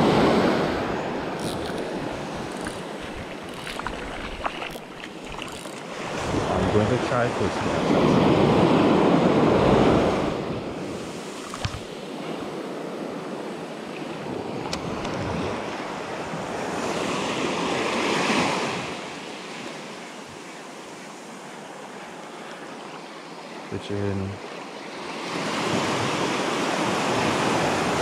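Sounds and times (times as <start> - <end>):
small waves washing ashore: 0.0 - 28.0.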